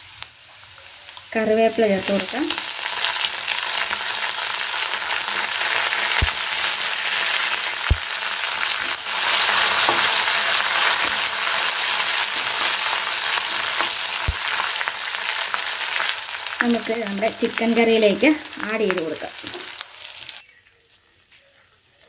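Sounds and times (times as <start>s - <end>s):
leaves sizzling in hot oil: 0.0s - 22.0s.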